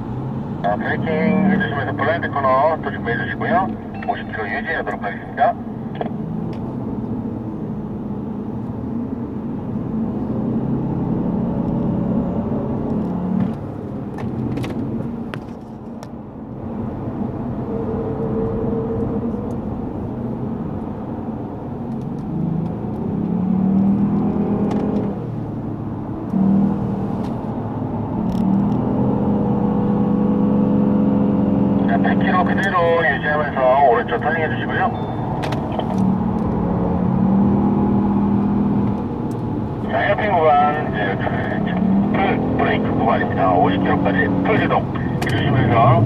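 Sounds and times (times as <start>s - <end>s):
tyre and road noise: 0.0s - 46.0s
car engine under load: 5.0s - 18.4s, 19.0s - 46.0s.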